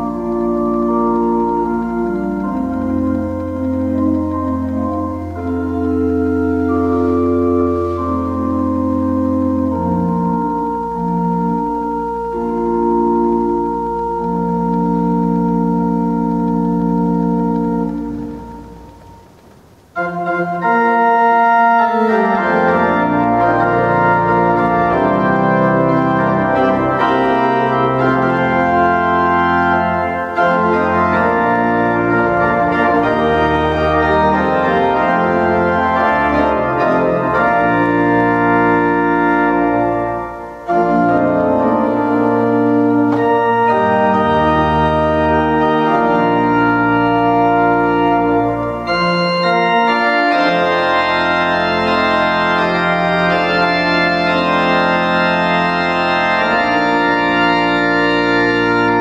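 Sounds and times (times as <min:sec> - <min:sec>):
deep organ pedal bass: 0:00.0 - 0:59.0
pipe organ playing chords: 0:00.0 - 0:59.0.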